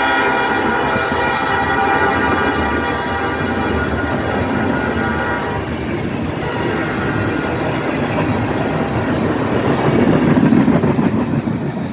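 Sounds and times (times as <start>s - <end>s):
freight train wheels rattling on rails: 0.0s - 11.9s.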